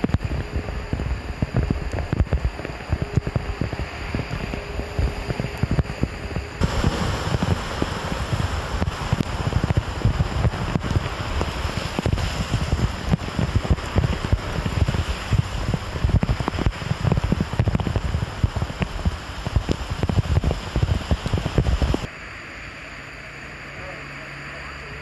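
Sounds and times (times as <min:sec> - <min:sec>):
wind buffeting microphone: 0:00.0 - 0:22.1
heavy rain pouring: 0:00.0 - 0:22.6.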